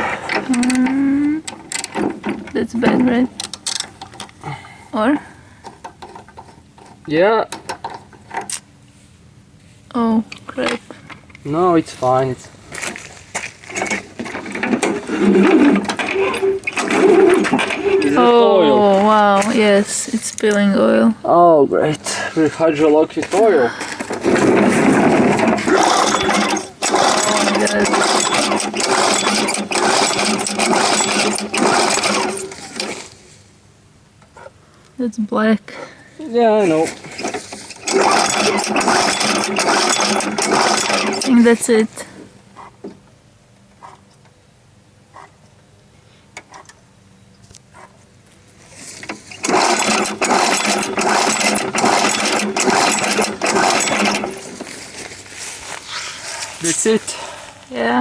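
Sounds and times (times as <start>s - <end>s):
lawn mower engine clattering: 0.0s - 8.8s, 10.3s - 20.6s, 21.9s - 33.4s, 36.4s - 44.4s, 48.3s - 57.7s.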